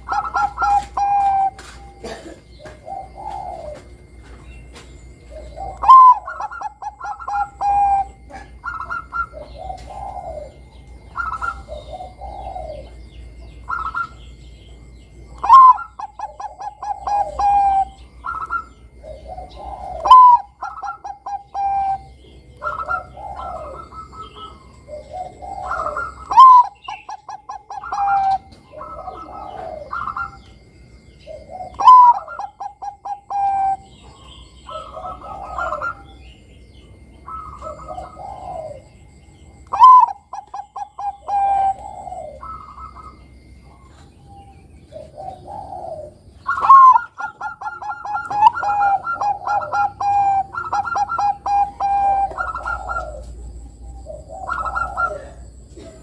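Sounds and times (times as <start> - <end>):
dove cooing song: 0.0 - 56.0.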